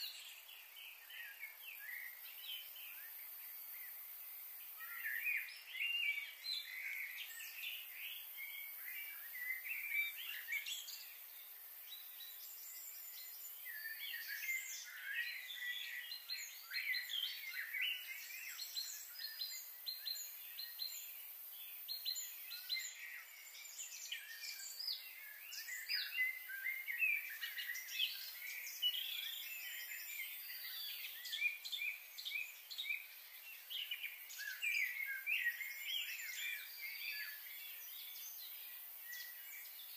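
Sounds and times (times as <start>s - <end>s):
faint steady hiss: 0.0s - 39.9s
small birds chirping: 0.0s - 39.9s.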